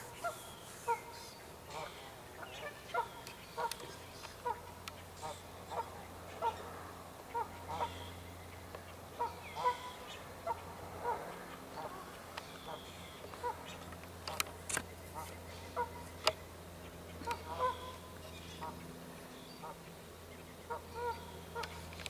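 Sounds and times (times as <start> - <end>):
geese honking: 0.0 - 8.3, 9.1 - 14.4, 15.1 - 20.0, 20.6 - 22.0.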